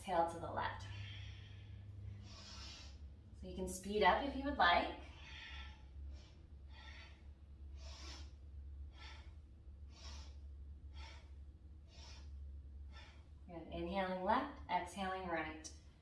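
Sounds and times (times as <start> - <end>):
woman breathing rhythmically: 0.0 - 13.5.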